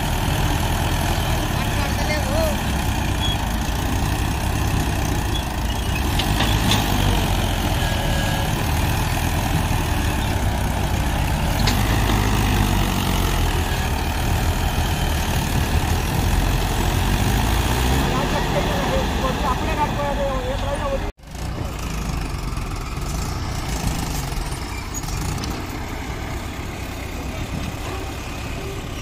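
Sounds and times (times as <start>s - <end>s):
tractor diesel engines under load: 0.0s - 29.0s.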